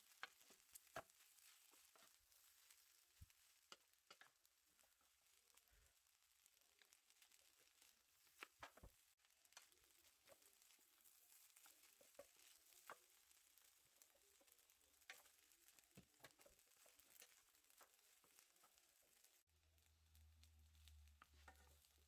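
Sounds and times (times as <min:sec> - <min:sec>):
rice sizzling in a pan: 0:00.0 - 0:22.0.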